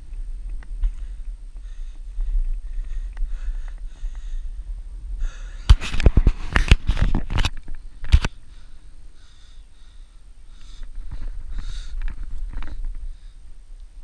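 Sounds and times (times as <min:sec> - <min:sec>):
wind rumble on microphone: 0:00.0 - 0:08.5, 0:10.8 - 0:14.0.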